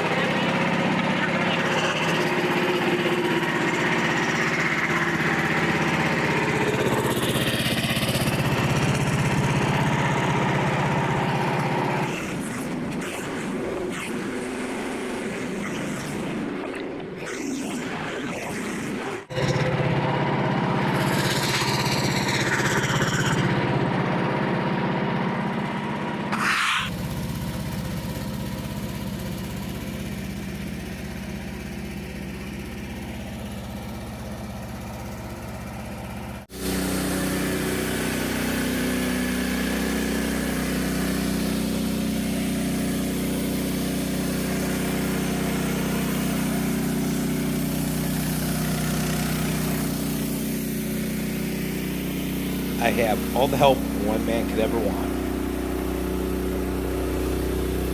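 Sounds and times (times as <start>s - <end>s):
sawmill gas engine running: 0.0s - 17.2s, 18.3s - 57.9s.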